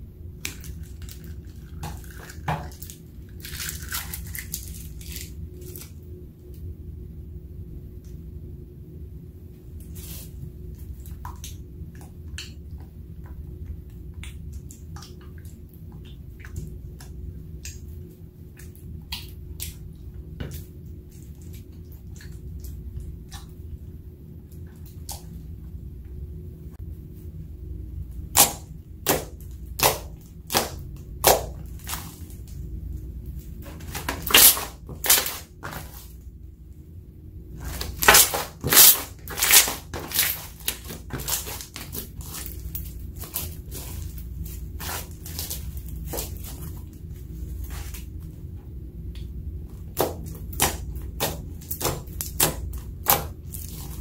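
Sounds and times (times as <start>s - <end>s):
steady low hum: 0.0s - 54.0s
spatula stirring wet slime: 0.4s - 6.0s, 9.7s - 25.8s, 28.2s - 36.4s, 37.5s - 48.3s, 49.1s - 54.0s.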